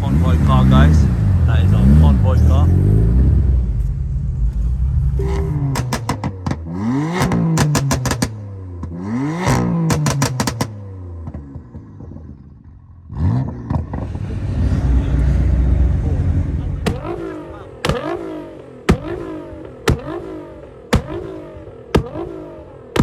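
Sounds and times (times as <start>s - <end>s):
exhaust pops and crackles: 0.0s - 12.7s, 16.6s - 23.0s
car engine revving: 0.0s - 23.0s.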